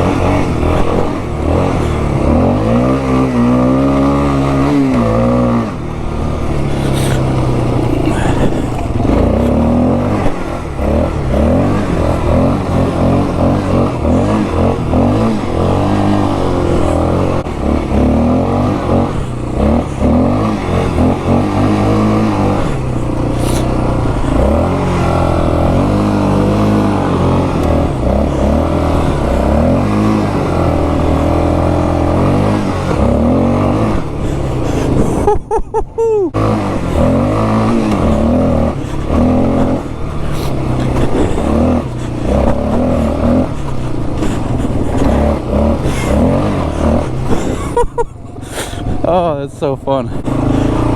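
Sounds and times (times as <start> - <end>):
quad engine revving: 0.0 - 50.9.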